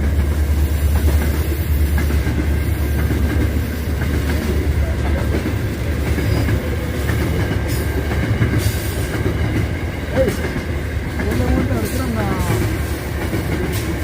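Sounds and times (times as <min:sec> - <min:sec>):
train rumbling past on rails: 0:00.0 - 0:14.0.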